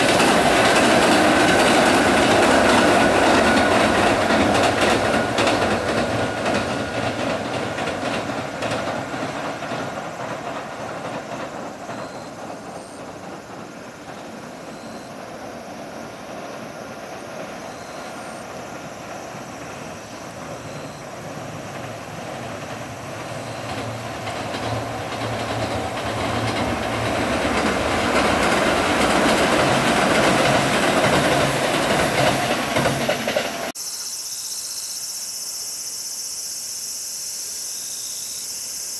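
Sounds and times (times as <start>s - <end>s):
train wheels clattering on rails: 0.0s - 33.8s.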